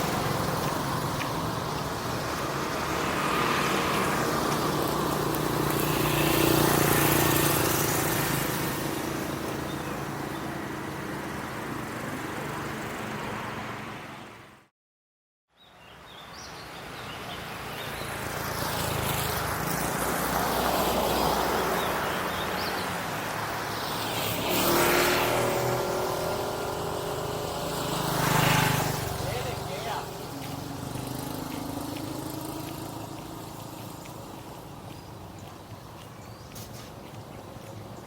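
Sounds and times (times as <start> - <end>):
vehicles passing: 0.0 - 14.7, 15.9 - 38.0.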